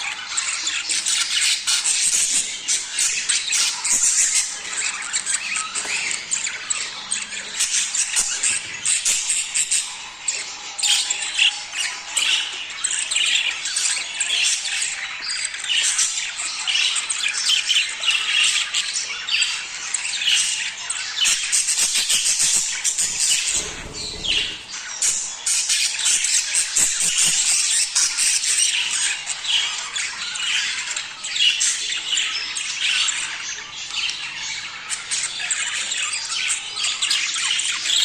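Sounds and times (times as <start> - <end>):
budgerigars chattering and squawking: 0.0 - 38.0.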